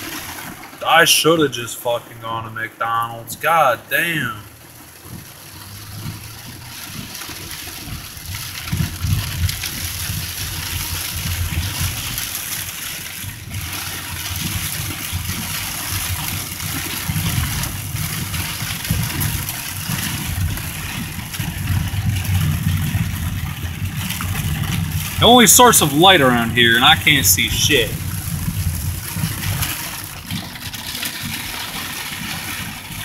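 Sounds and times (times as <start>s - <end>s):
car driving rumble: 0.0s - 12.4s, 16.0s - 31.7s
heavy rain on car windshield: 0.0s - 33.0s.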